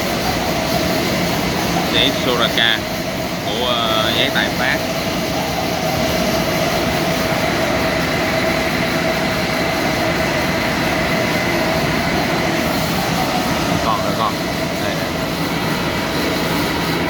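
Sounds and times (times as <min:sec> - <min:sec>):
machine drone with whine: 0:00.0 - 0:17.0.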